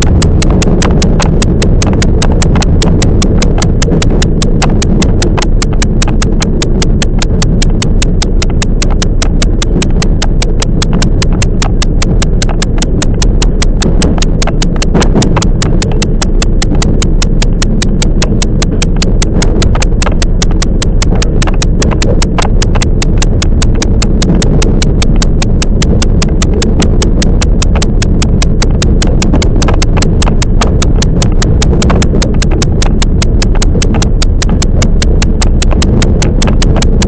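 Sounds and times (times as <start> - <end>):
electric train rumble: 0.0 - 37.0
fast even clicking of train: 0.0 - 37.0.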